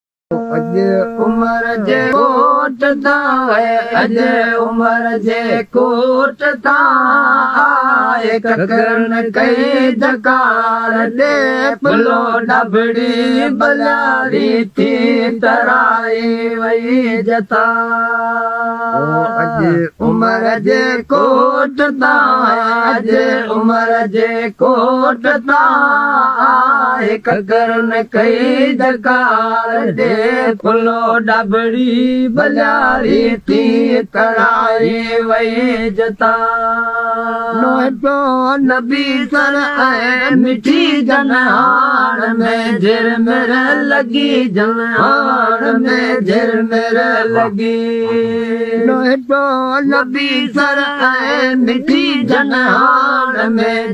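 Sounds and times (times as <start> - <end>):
solo voice singing: 0.3 - 53.9.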